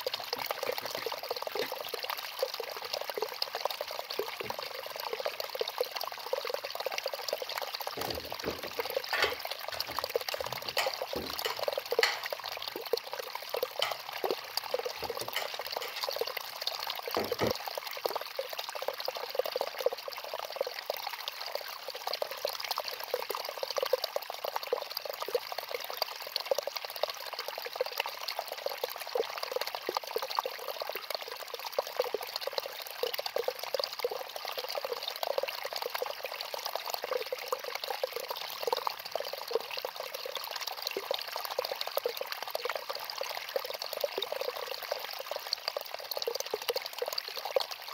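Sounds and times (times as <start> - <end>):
trickling crackling sound: 0.0 - 47.9.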